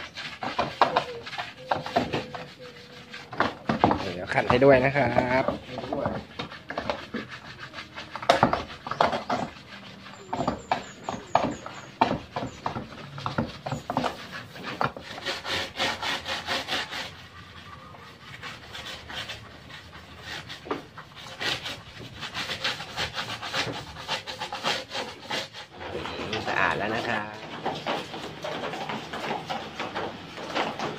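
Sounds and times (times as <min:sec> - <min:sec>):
scouring pad scrubbing plastic: 0:00.0 - 0:30.9.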